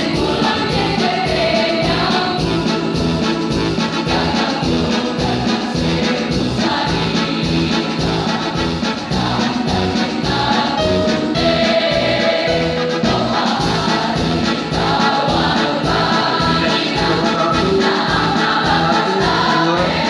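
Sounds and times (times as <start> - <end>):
choir singing in parts: 0.0 - 20.0.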